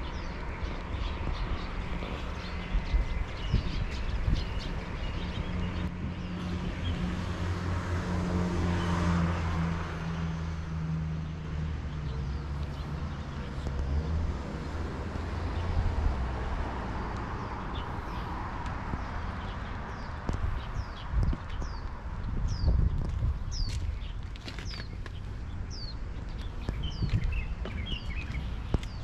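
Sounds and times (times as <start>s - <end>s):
cars passing: 0.0s - 29.0s
road traffic: 0.0s - 29.0s.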